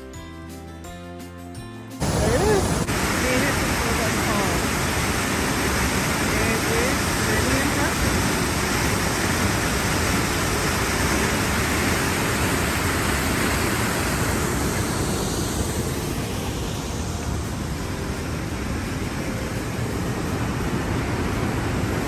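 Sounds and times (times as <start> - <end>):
waterfall rushing: 2.0 - 22.0.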